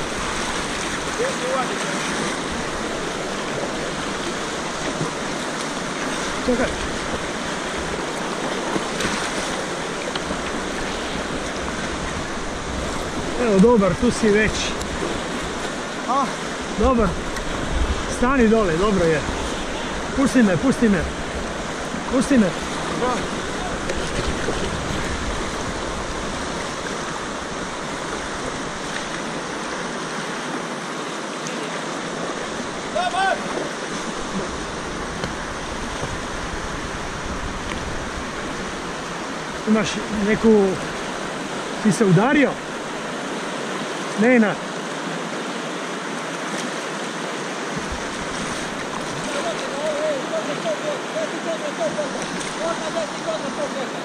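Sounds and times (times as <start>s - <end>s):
whitewater rushing over rapids: 0.0s - 54.0s.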